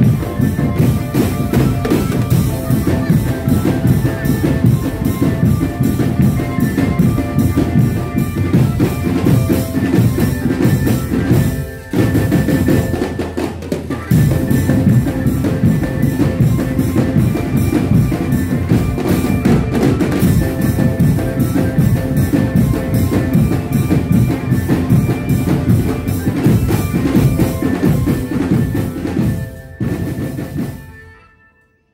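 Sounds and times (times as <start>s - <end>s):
drum band playing fast beat: 0.0s - 30.9s
held melody notes: 0.0s - 31.8s.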